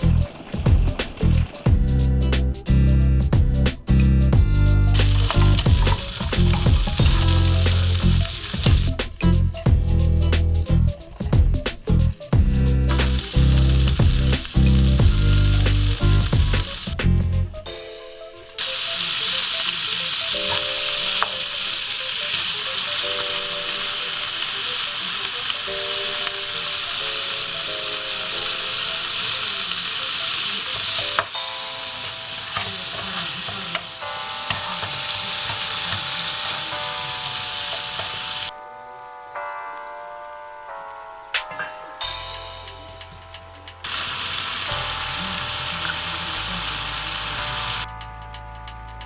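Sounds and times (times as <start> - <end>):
soft background music: 0.0 - 49.0
steady hiss: 0.0 - 49.0.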